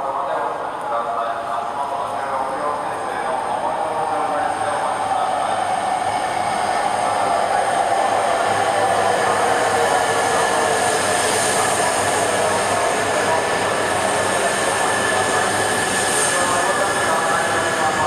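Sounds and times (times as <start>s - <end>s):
train running hum: 0.0s - 18.0s.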